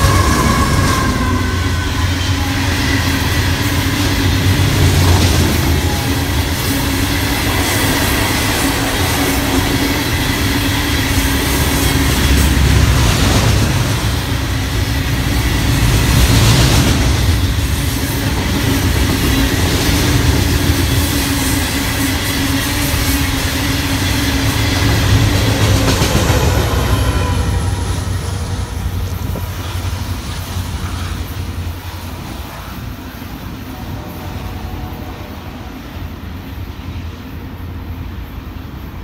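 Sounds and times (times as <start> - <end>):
train wheels clattering on rails: 0.0 - 34.0
diesel locomotive passing: 0.0 - 39.0.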